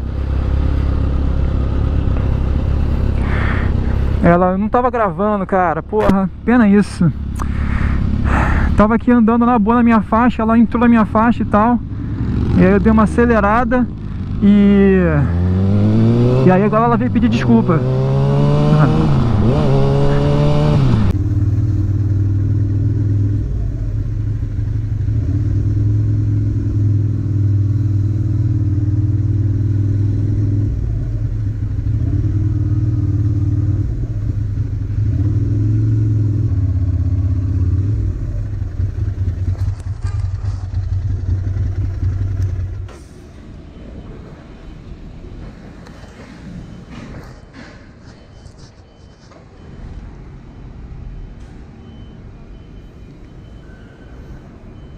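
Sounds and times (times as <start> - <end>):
motorcycle engine: 0.0 - 47.8.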